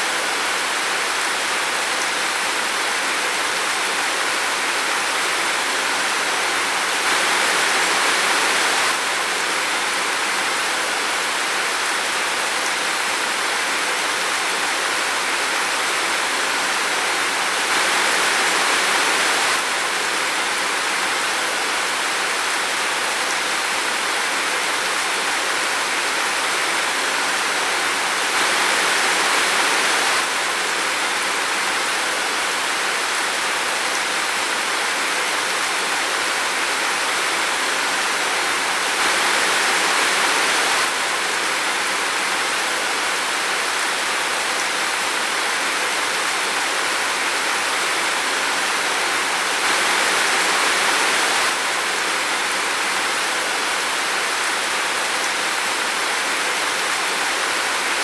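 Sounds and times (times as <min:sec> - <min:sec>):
heavy rain in a forest: 0:00.0 - 0:58.0.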